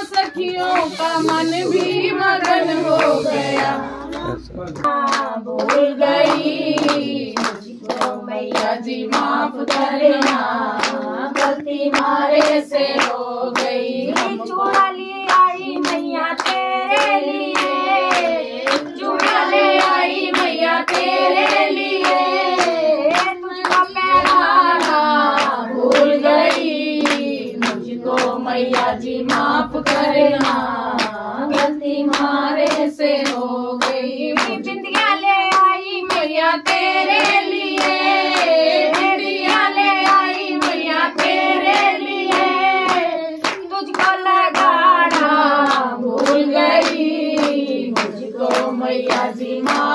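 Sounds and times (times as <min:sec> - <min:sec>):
hand clapping in time: 0:00.0 - 0:49.9
person singing devotional song: 0:00.0 - 0:49.9.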